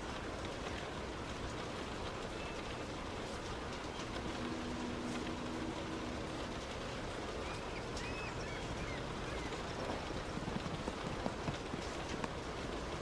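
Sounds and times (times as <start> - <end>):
heavy rain and road spray: 0.0 - 13.0
raindrops clicking on car: 0.0 - 13.0.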